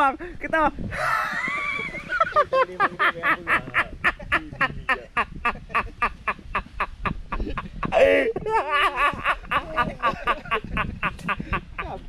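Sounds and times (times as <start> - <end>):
man laughing: 1.0 - 12.0.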